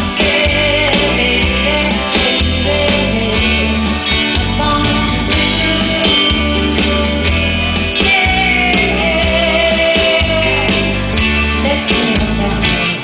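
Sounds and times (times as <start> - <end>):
steady drum beat: 0.0 - 12.8
guitar: 0.0 - 13.0
person singing: 0.0 - 13.0
strong bass line: 0.0 - 13.0.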